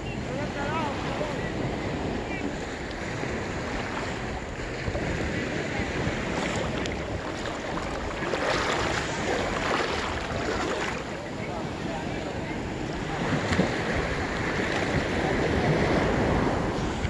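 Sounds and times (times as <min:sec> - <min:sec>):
sea waves: 0:00.0 - 0:17.0
wind buffeting microphone: 0:00.0 - 0:17.0.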